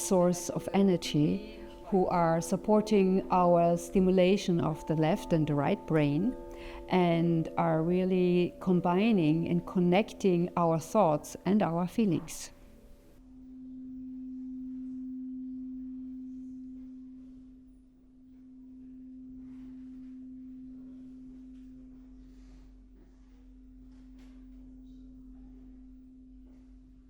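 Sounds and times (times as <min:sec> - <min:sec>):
singing bowl tone: 0:00.0 - 0:27.0.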